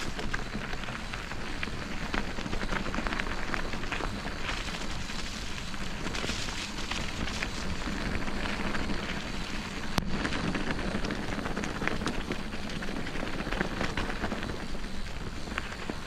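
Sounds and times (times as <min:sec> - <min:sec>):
bicycle tyres crunching on track: 0:00.0 - 0:16.0.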